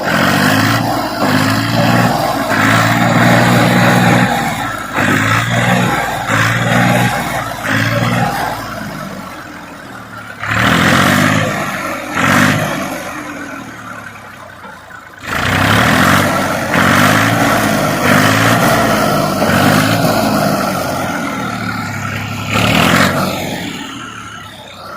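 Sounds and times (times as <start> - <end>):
tractor engine revving: 0.0 - 24.9.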